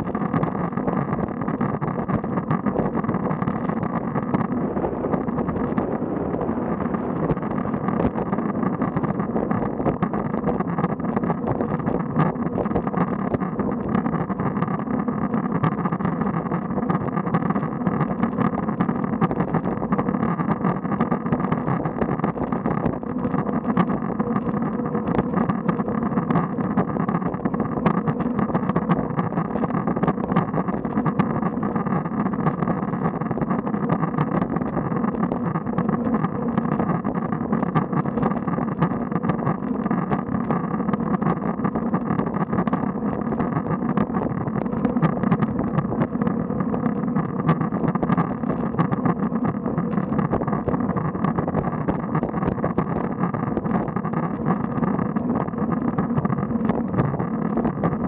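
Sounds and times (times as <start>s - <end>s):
bicycle rolling on asphalt: 0.0s - 58.0s.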